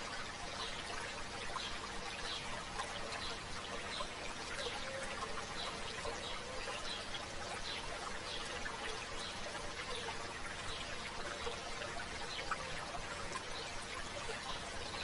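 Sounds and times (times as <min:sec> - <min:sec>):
river water babbling over stones: 0:00.0 - 0:15.0.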